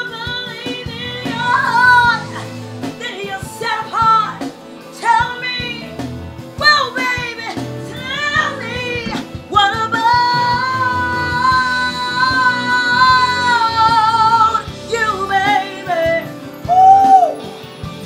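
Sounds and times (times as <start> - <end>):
woman singing: 0.0 - 6.0, 6.6 - 17.4
instrumental backing music: 0.0 - 18.0.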